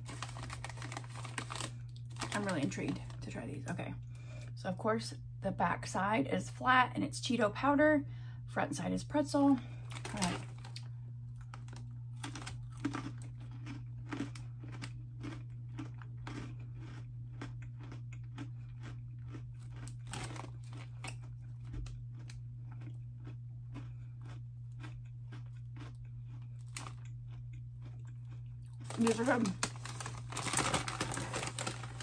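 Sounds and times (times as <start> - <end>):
person chewing crunchy snacks: 0.0 - 3.3, 9.6 - 32.0.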